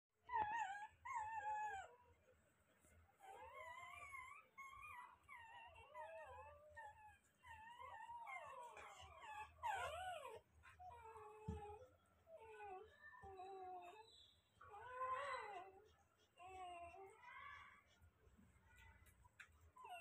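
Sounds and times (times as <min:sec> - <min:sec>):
puppies whimpering and squeaking: 0:00.3 - 0:02.0, 0:03.2 - 0:18.0, 0:19.7 - 0:20.0.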